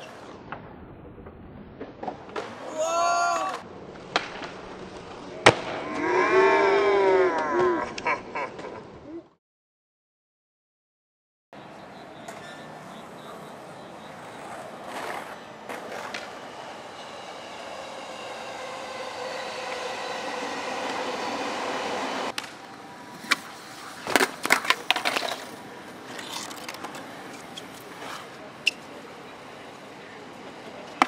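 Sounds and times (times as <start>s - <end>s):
skateboard wheels rolling on concrete: 0.0s - 6.2s, 11.6s - 31.0s.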